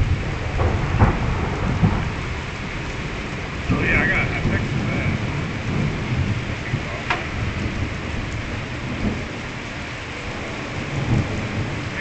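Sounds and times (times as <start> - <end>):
low thunder rumbling: 0.0 - 12.0
rain falling: 0.0 - 12.0.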